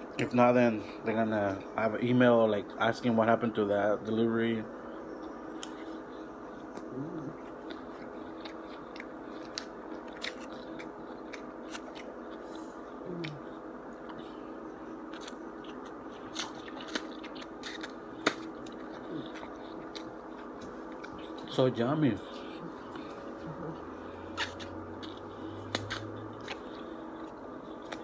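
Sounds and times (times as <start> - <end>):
steady background hum: 0.0 - 28.0
man chewing food: 4.9 - 28.0.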